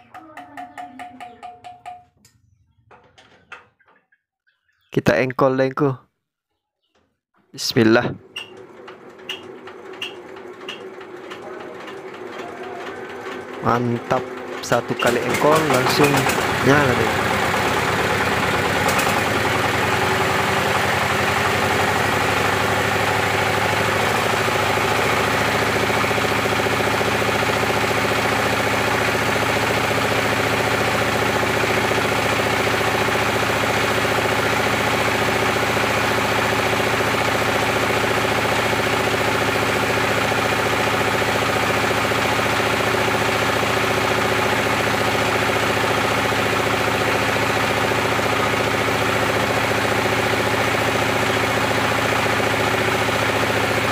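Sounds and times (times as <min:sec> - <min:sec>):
diesel engine running: 0:07.9 - 0:53.9.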